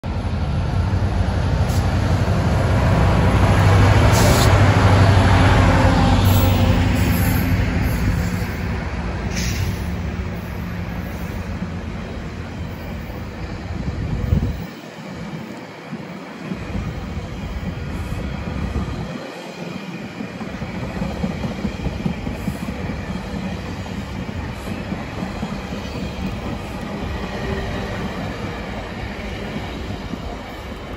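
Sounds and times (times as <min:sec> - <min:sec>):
diesel locomotive engine droning: 0:00.0 - 0:30.9
train wheels rumbling on rails: 0:00.0 - 0:30.9.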